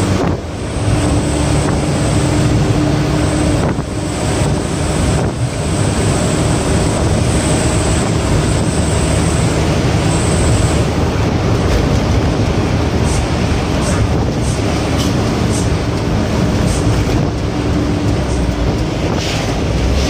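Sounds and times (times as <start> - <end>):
road and wind noise: 0.0 - 20.0
truck engine running: 0.0 - 20.0.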